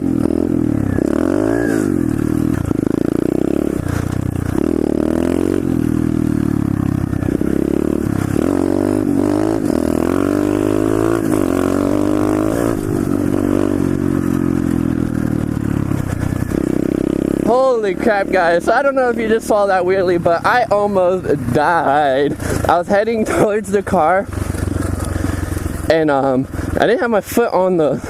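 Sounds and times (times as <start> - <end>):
motorbike engine revving: 0.0 - 28.0.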